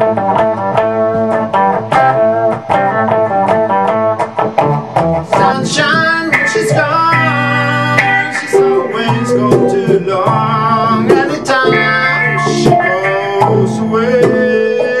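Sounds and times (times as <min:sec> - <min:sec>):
electric guitar with effects: 0:00.0 - 0:15.0.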